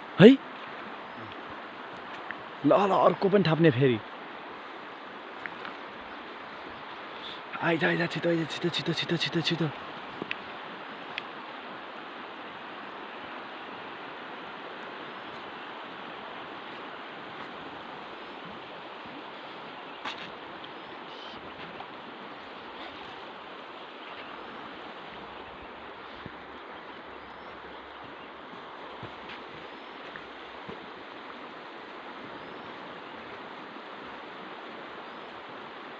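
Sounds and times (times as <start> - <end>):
fast river rushing: 0.0 - 35.9.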